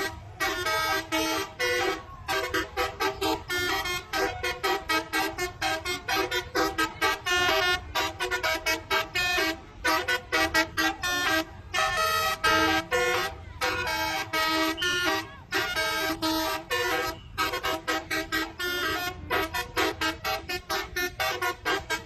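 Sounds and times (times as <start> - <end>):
musical air horn melody: 0.0 - 22.0.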